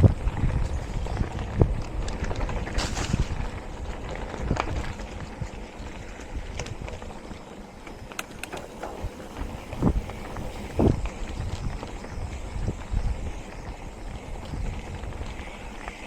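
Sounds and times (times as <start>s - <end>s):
bike rattling and knocking: 0.0s - 16.0s
bike tyres rolling on dirt: 0.0s - 16.0s
wind buffeting microphone: 0.0s - 16.0s.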